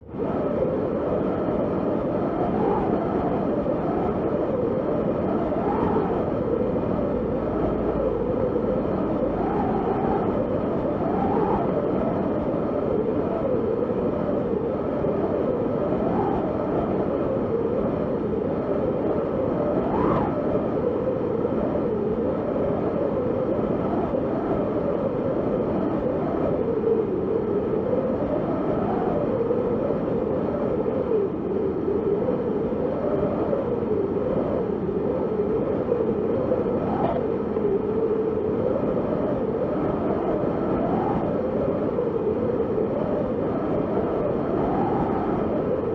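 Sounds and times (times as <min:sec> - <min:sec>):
strong wind howling: 0:00.0 - 0:45.9
whistle of a wind gust: 0:00.0 - 0:45.9.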